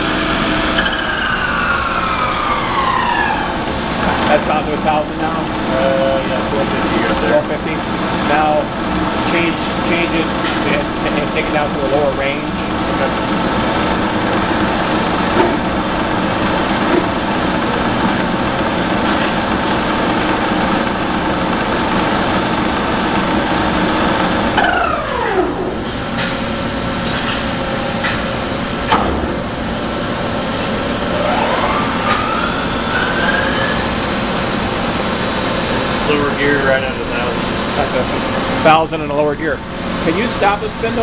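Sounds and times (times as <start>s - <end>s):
machine spindle whine: 0.0s - 41.0s.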